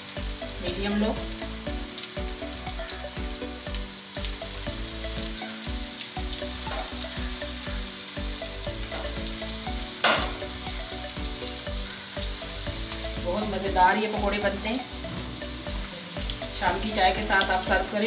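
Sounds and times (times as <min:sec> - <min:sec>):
batter sizzling in hot oil: 0:00.0 - 0:18.0.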